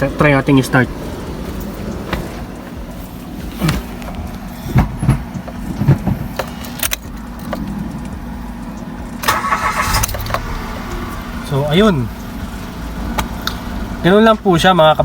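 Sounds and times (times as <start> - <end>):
car engine starting and running: 0.0 - 15.0.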